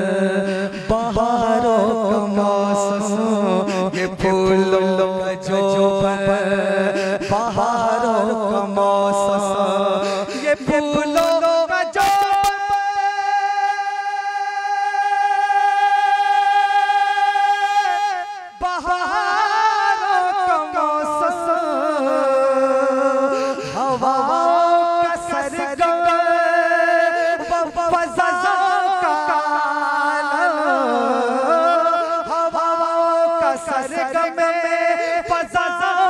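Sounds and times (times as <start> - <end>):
man singing into a microphone: 0.0 - 36.0.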